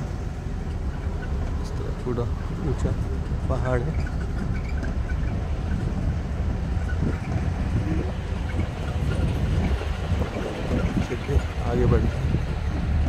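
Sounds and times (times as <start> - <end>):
vehicle on dirt road rumbling: 0.0 - 13.0.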